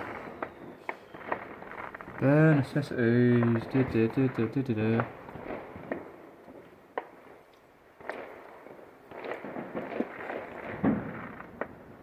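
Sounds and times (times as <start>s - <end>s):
distant fireworks bangs and crackles: 0.0s - 12.0s.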